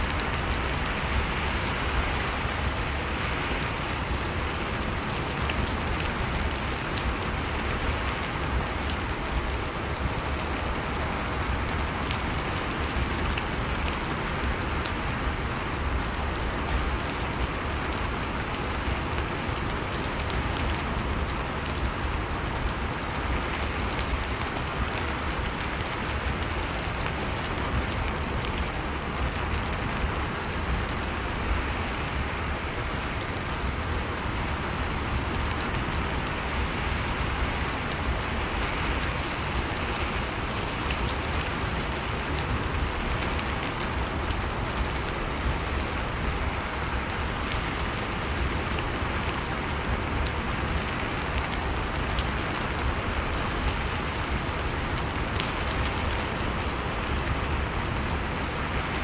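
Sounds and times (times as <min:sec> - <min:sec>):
rain patter on surfaces: 0:00.0 - 0:59.0.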